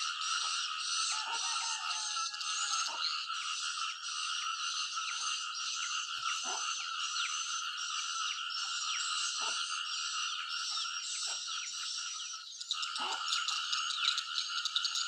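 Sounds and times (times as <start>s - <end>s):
chorus of frogs calling: 0.0s - 15.0s.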